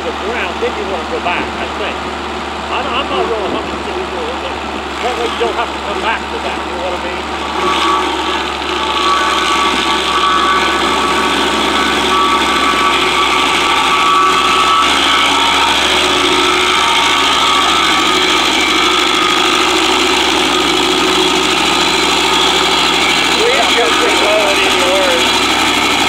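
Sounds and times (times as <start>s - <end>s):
stump grinder grinding: 0.0s - 26.0s
tractor engine running: 0.0s - 26.0s.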